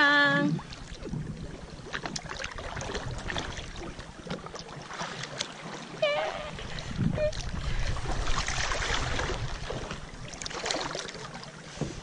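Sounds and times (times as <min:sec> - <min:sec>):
wind rumbling on microphone: 0:00.0 - 0:04.6, 0:06.0 - 0:12.0
sea water splashing: 0:00.0 - 0:12.0.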